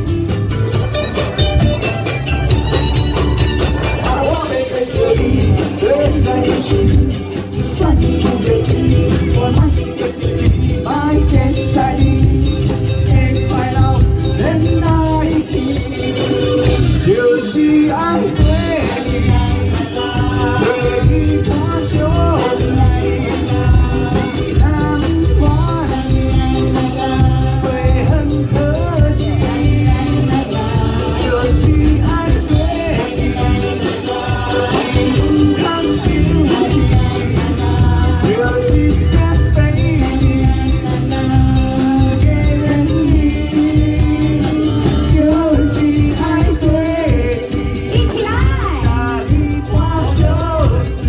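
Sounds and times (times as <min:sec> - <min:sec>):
live band playing: 0:00.0 - 0:51.0
person singing: 0:02.7 - 0:51.0.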